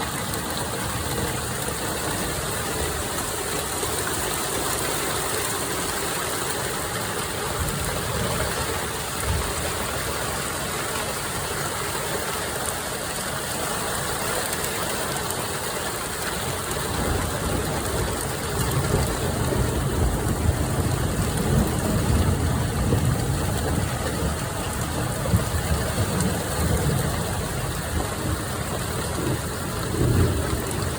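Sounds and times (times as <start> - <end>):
hail falling: 0.0 - 30.9.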